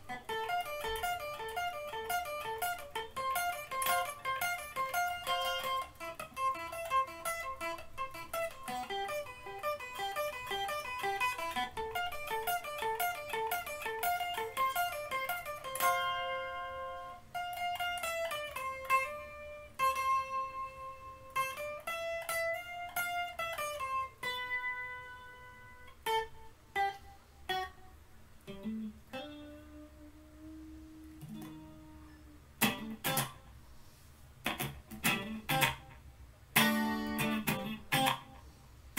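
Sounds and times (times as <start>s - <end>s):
guitar chords strummed: 0.0s - 33.6s, 34.4s - 38.6s
electric guitar playing: 0.0s - 38.6s.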